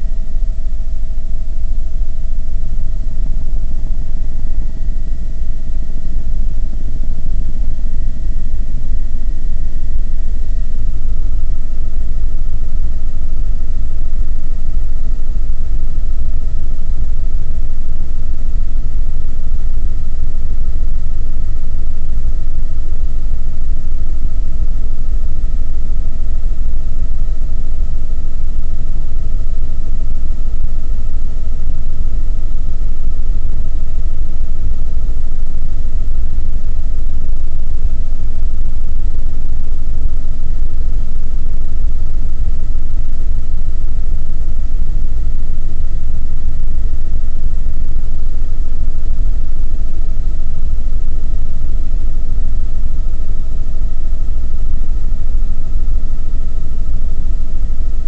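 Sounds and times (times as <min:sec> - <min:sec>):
constant high whine: 0:00.0 - 0:58.0.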